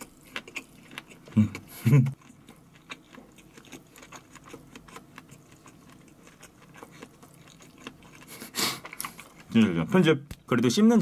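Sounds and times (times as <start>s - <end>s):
person chewing food: 0.0s - 9.7s.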